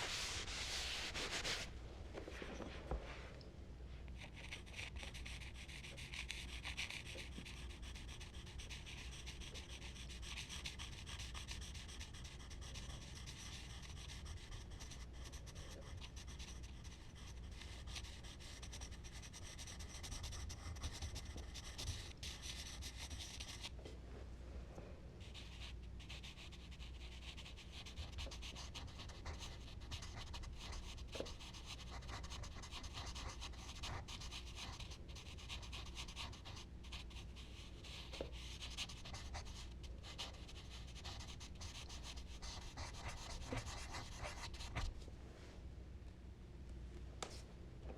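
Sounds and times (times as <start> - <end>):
charcoal scratching on paper: 0.0 - 1.7, 4.2 - 23.7, 25.4 - 45.0.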